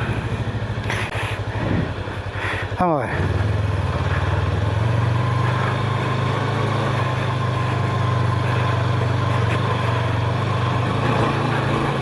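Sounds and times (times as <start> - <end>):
motorcycle engine running: 0.0 - 12.0
tires on gravel: 0.0 - 12.0.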